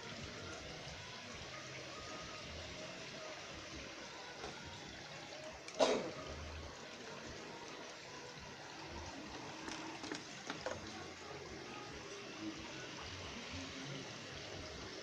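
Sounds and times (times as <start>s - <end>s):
trickling running water: 0.0s - 15.0s.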